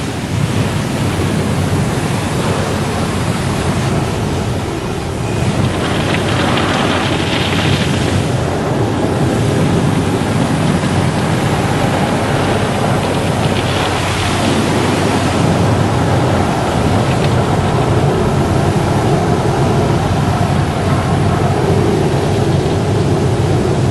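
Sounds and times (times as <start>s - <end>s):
car wash rushing noise: 0.0s - 23.9s.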